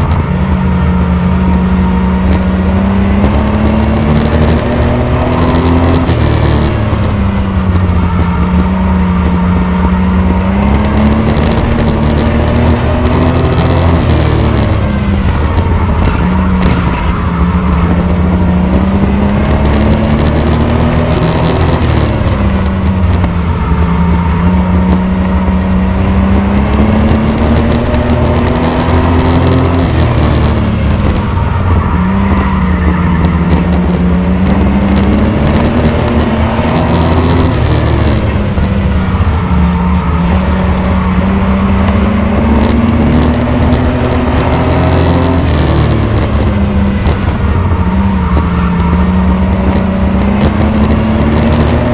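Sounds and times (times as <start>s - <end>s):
racing truck engine running hard: 0.0s - 51.9s.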